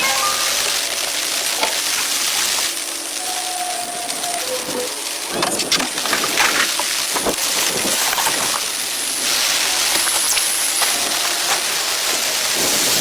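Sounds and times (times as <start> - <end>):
rain hiss: 0.0 - 13.0.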